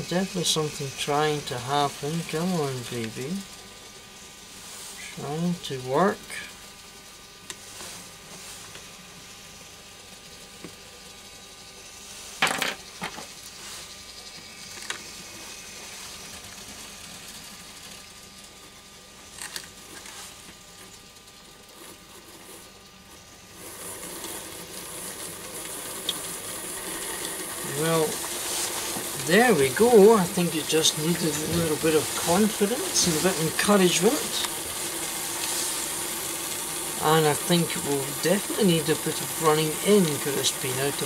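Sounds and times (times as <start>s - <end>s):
small motor whirring: 0.0s - 41.0s.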